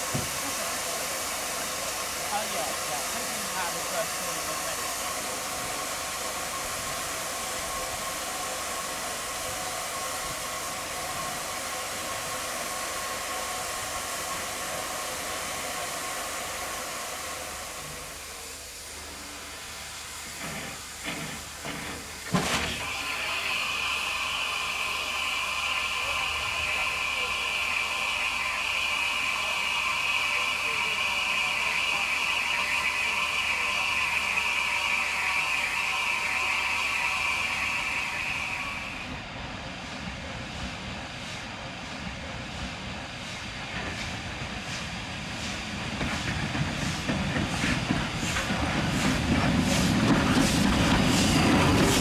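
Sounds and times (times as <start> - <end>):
steam locomotive hissing: 0.0 - 52.0.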